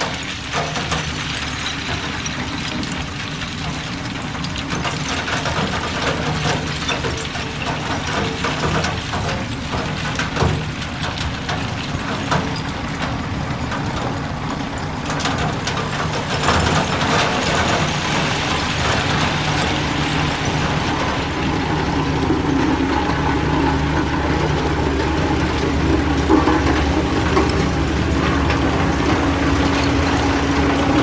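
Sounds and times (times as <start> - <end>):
clatter and scraping: 0.0 - 31.0
heavy diesel engine running: 0.0 - 31.0.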